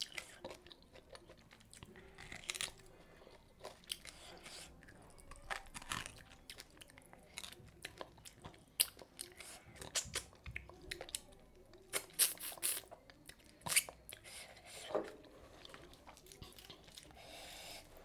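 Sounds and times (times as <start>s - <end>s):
person chewing crisp food: 0.0s - 18.0s.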